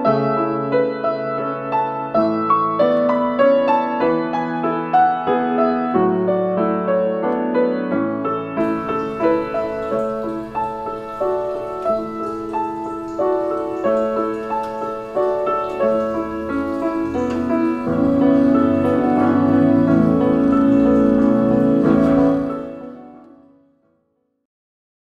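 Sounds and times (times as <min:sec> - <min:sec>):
piano music: 0:00.0 - 0:23.8.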